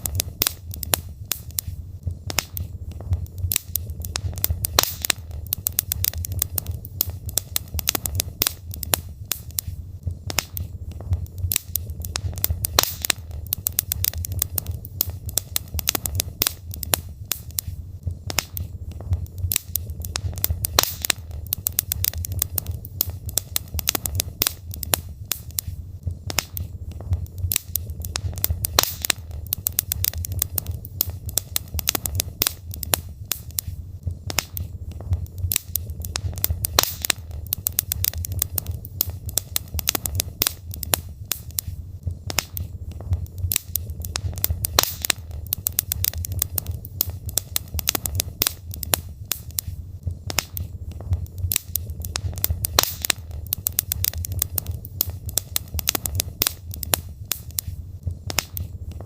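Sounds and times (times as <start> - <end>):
logs crackling and popping: 0.0 - 59.0
low fire rumble: 0.0 - 59.0.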